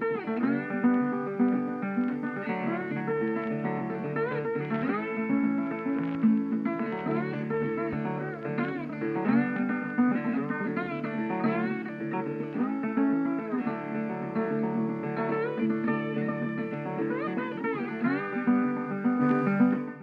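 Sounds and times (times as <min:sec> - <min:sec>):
guitar music: 0:00.0 - 0:20.0.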